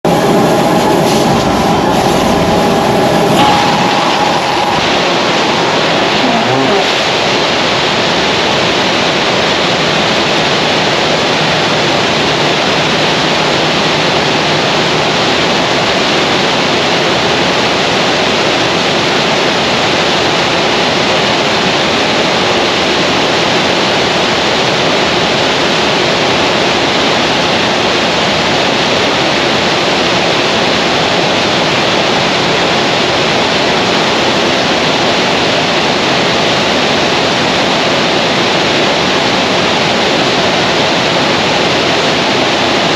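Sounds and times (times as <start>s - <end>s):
rocket engine exhaust roar: 0.0s - 42.9s.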